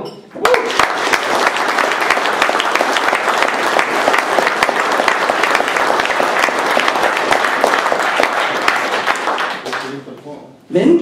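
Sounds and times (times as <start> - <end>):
audience applause: 0.4 - 10.1.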